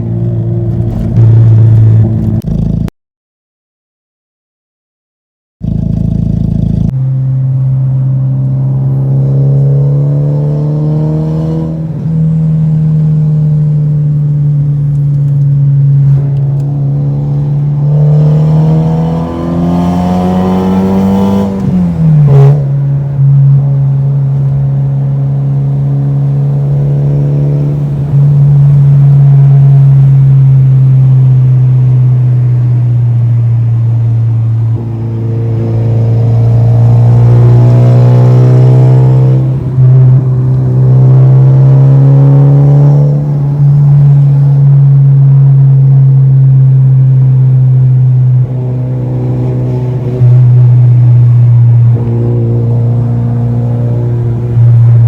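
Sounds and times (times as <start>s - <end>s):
car engine revving under load: 5.6s - 55.0s.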